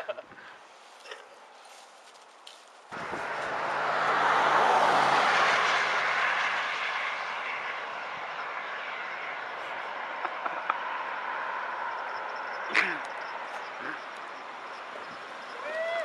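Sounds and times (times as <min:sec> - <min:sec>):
motor vehicle passing: 0:02.5 - 0:16.0.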